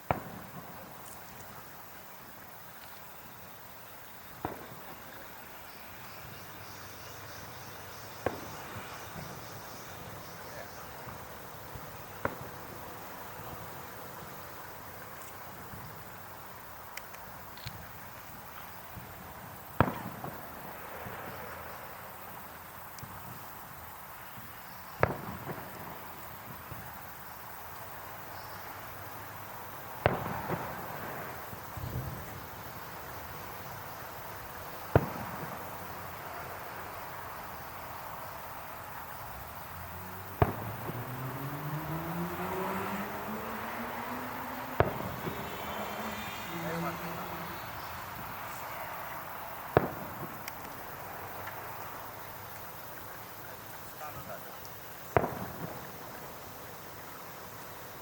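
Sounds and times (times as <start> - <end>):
distant firework bursts: 0.0 - 58.0
insects chirping: 0.0 - 58.0.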